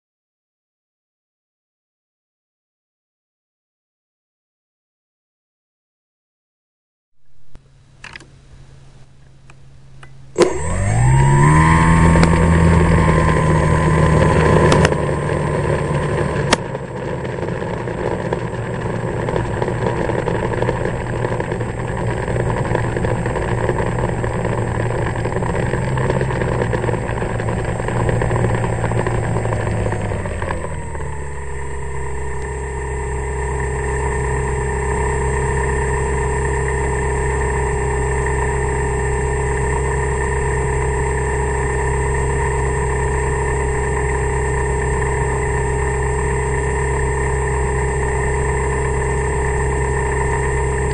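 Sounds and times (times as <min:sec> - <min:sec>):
electric motor and propeller whine: 0:07.9 - 0:50.9.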